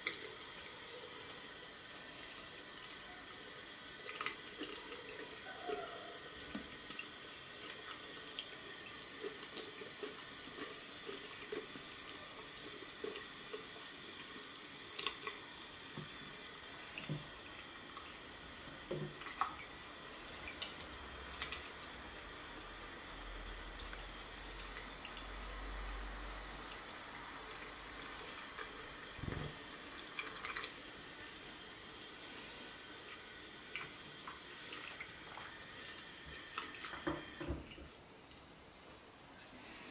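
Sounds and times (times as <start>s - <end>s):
tap water running into basin: 0.0s - 38.5s.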